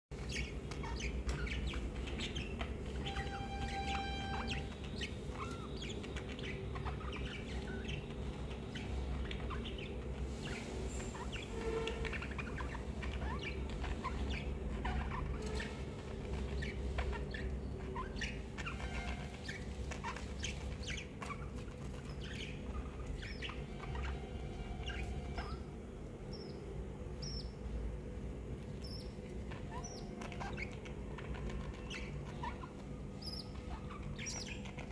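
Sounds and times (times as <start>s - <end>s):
budgerigars chirping: 0.1s - 34.9s
steady low hum: 0.1s - 34.9s.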